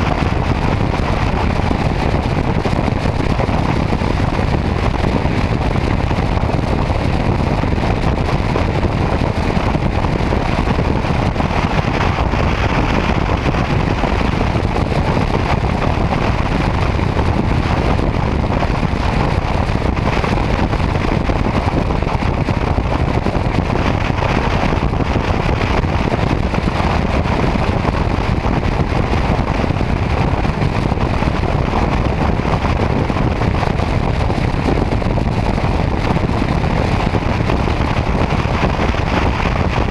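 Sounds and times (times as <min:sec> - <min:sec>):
motorcycle road noise: 0:00.0 - 0:39.9
wind rush on microphone: 0:00.0 - 0:39.9.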